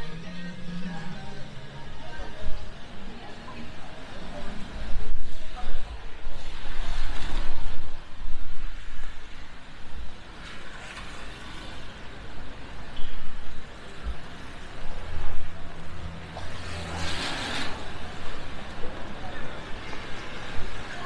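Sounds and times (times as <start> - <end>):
rain: 0.0 - 21.0
traffic on wet road: 1.6 - 21.0.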